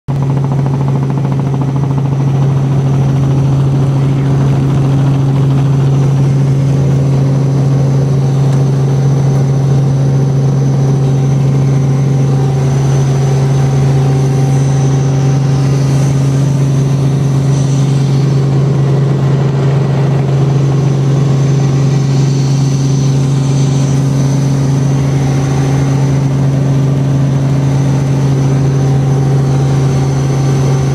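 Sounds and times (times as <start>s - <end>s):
helicopter engine and rotor drone: 0.1s - 30.9s.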